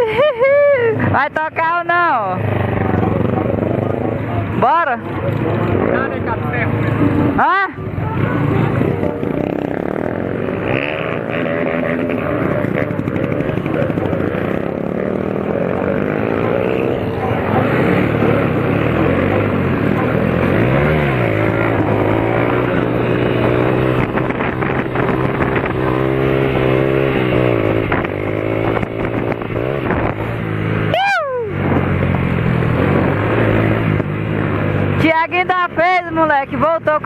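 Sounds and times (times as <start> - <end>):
vehicle engines revving: 0.0 - 37.0.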